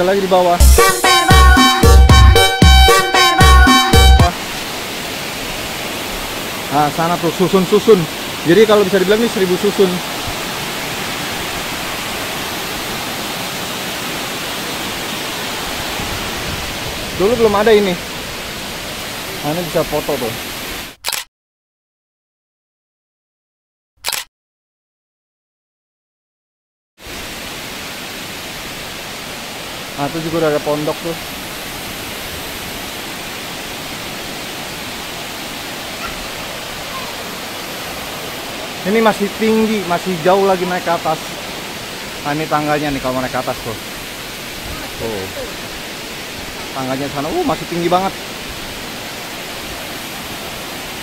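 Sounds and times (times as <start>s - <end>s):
waterfall rushing: 0.0s - 21.0s, 27.0s - 51.0s.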